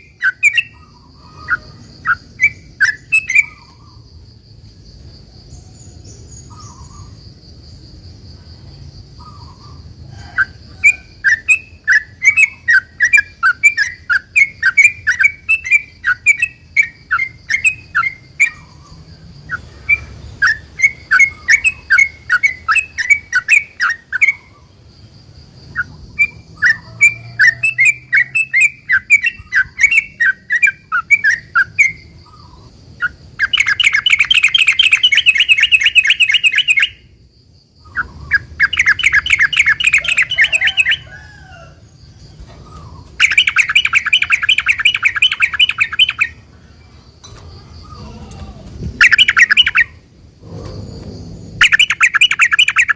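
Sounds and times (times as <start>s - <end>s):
bird chattering song: 0.0s - 4.1s, 5.8s - 7.2s, 9.2s - 24.8s, 25.7s - 37.1s, 37.8s - 41.1s, 42.4s - 50.0s, 51.0s - 52.9s.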